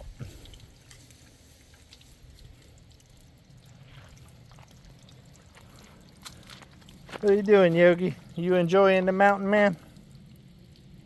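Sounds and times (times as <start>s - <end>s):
faint water dripping and trickling: 0.0s - 11.0s.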